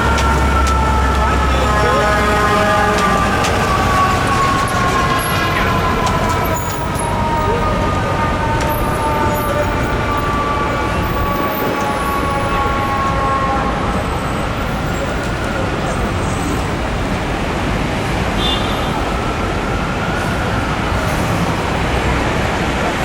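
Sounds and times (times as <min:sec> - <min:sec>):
fire truck siren winding down: 0:00.0 - 0:16.9, 0:18.5 - 0:23.0
city traffic noise: 0:00.0 - 0:23.0.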